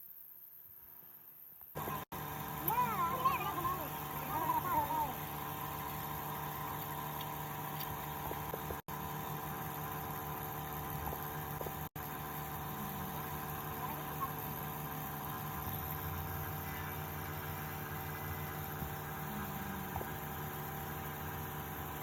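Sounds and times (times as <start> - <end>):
steady machine hum: 1.8 - 22.0.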